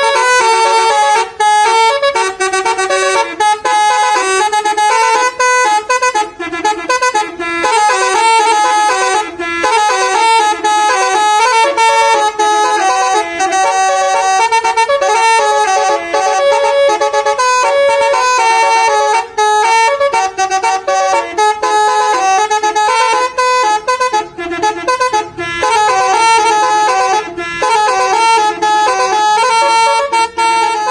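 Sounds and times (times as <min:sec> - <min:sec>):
musical bus horn playing a tune: 0:00.0 - 0:30.9.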